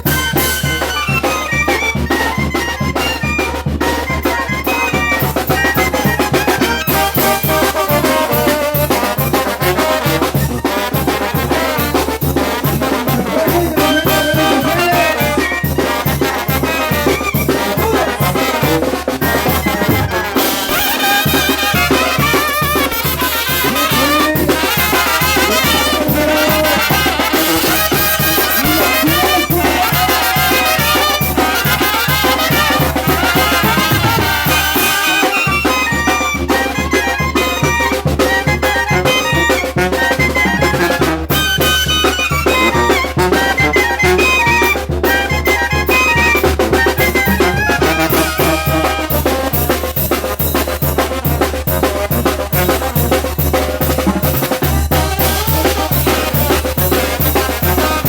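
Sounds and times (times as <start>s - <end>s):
brass band playing dance music: 0.0s - 58.0s
steady drum beat: 0.0s - 58.0s.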